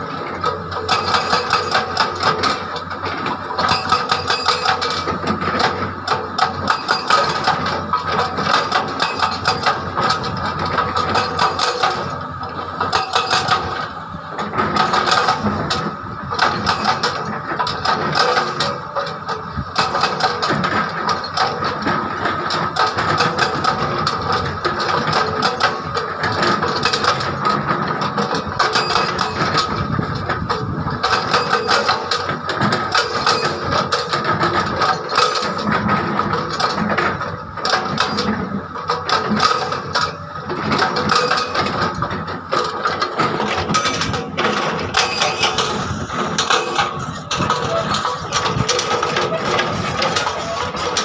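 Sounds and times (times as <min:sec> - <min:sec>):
hydraulic breaker hammering rock: 0:00.0 - 0:51.0.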